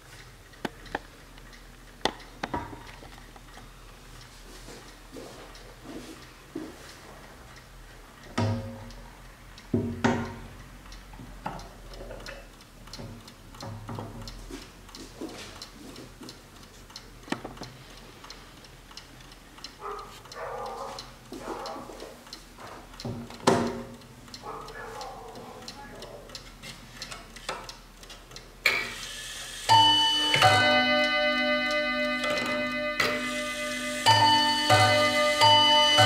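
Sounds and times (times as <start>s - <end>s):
clock ticking: 0.0s - 28.7s, 29.7s - 36.0s.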